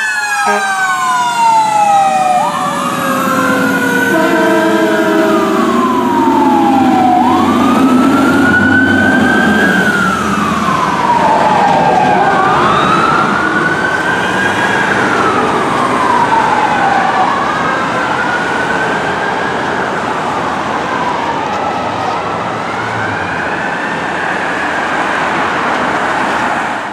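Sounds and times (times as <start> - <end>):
traffic noise: 0.0 - 26.9
wailing siren: 0.0 - 26.9.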